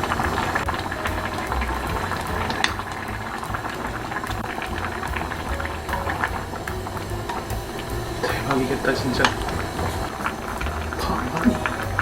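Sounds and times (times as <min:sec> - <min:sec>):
stew bubbling at a boil: 0:00.0 - 0:12.0.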